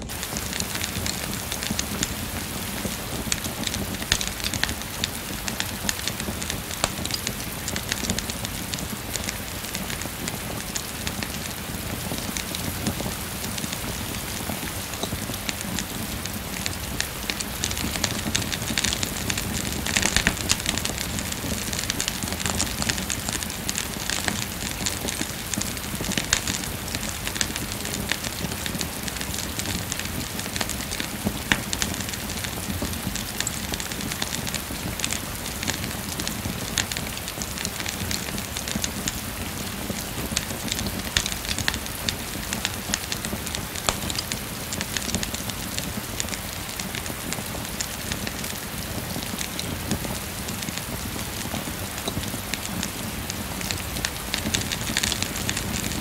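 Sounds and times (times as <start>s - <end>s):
steady rain falling: 0.0s - 56.0s
wood fire crackling: 0.0s - 56.0s.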